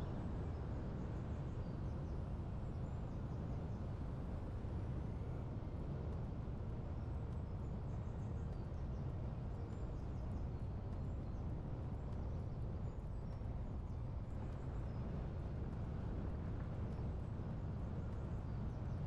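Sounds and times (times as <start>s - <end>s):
wind and road noise in car: 0.0s - 19.0s.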